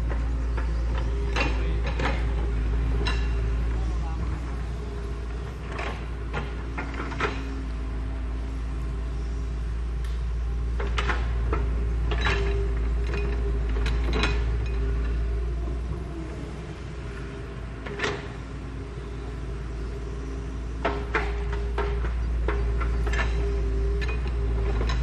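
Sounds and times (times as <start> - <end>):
excavator diesel engine rumbling: 0.0 - 25.0.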